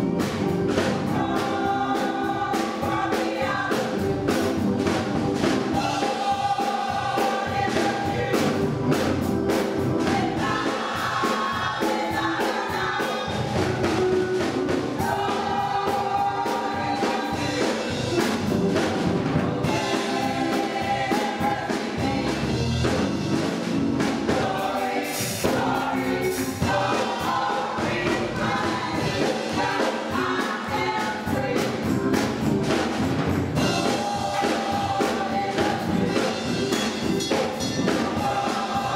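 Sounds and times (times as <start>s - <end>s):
gospel choir singing: 0.0s - 38.9s
instrumental accompaniment with beat: 0.0s - 38.9s.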